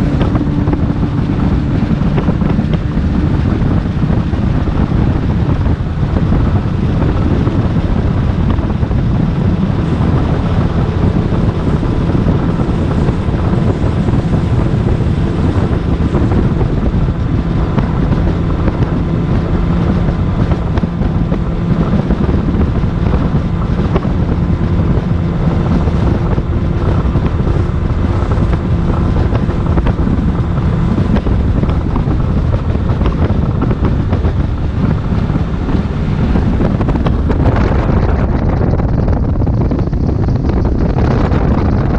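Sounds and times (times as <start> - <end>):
wind rumbling on microphone: 0.0 - 41.9.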